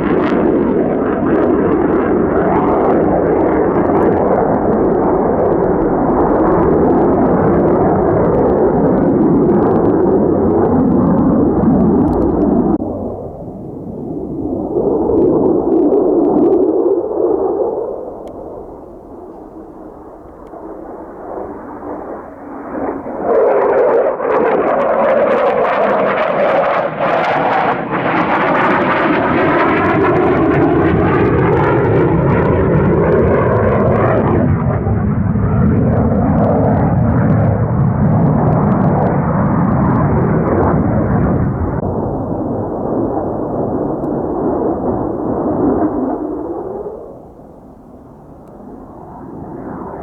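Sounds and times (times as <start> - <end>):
jet flying past: 0.0 - 50.0.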